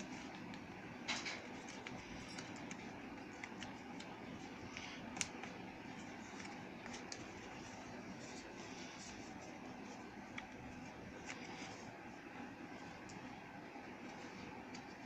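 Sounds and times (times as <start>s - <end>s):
paper crinkling and folding: 0.0s - 13.4s.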